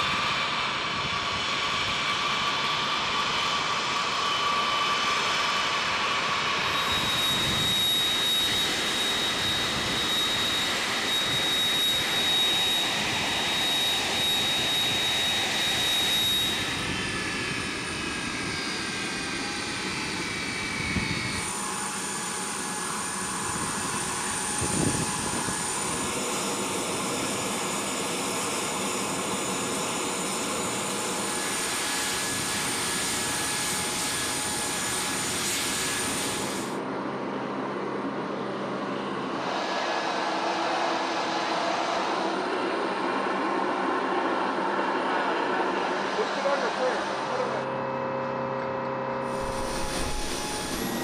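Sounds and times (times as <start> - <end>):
jet engines idling: 0.0 - 47.8, 49.3 - 51.0.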